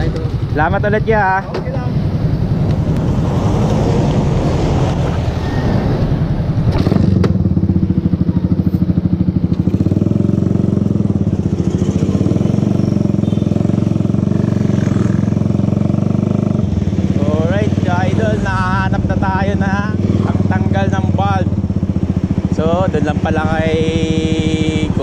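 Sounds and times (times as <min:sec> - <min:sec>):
motorcycle engine running: 0:00.0 - 0:04.9, 0:06.2 - 0:25.0.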